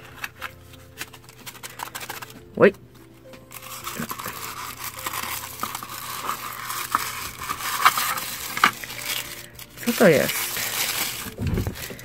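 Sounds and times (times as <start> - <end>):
wrapping crinkling: 0.0 - 12.0.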